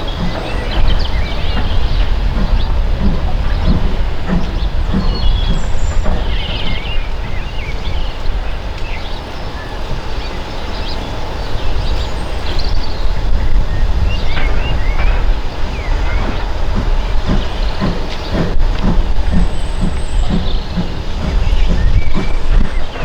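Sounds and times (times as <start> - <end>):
steam train rumbling past: 0.0 - 23.0.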